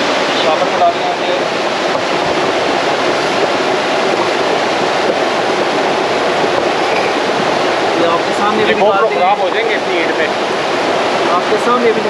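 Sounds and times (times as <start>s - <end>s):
water bubbling and splashing: 0.0s - 12.0s.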